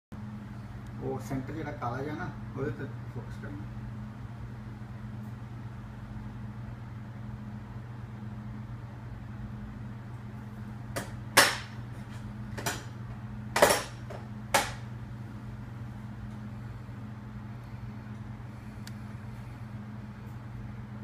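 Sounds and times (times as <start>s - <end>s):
low electrical hum: 0.1s - 21.0s.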